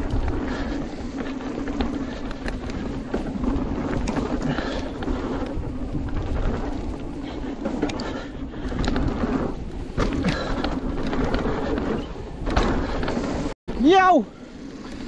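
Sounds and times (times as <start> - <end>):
bike knocking and rattling: 0.0 - 15.0
bike tyres rumbling on dirt: 0.0 - 15.0.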